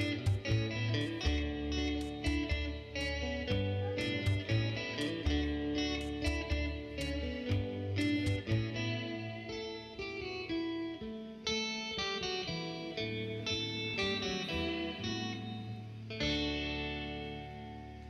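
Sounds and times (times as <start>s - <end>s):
plucked guitar melody: 0.0s - 18.0s.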